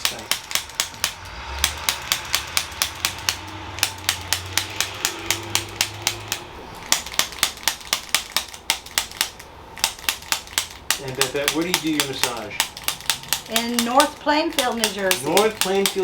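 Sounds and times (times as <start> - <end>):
percussion instrument tapping: 0.0 - 16.0.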